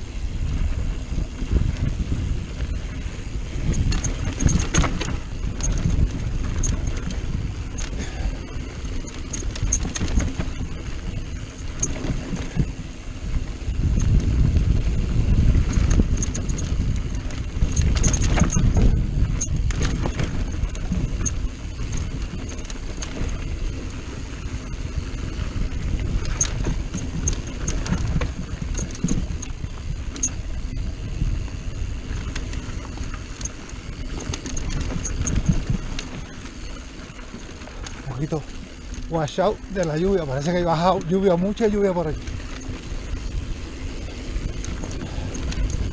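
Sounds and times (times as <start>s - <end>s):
bike and chain rattling: 0.0s - 45.9s
bike tyres rumbling on rough ground: 0.0s - 45.9s.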